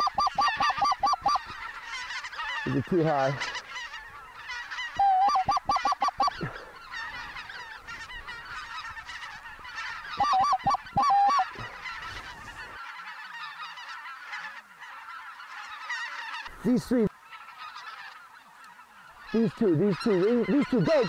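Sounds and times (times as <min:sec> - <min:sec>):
flock of geese calling: 0:00.0 - 0:21.0
geese honking: 0:00.0 - 0:21.0.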